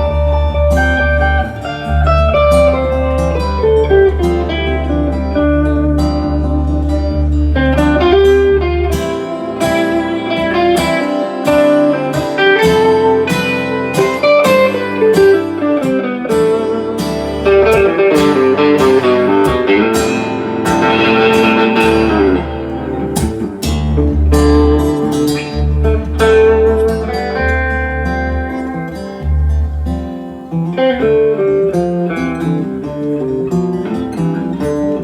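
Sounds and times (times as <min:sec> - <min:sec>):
live band music: 0:00.0 - 0:32.1
guitar lead line: 0:00.0 - 0:35.0.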